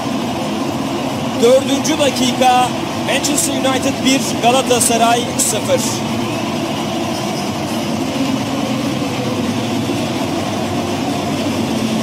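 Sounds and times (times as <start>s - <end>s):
stadium crowd din: 0.0s - 12.0s.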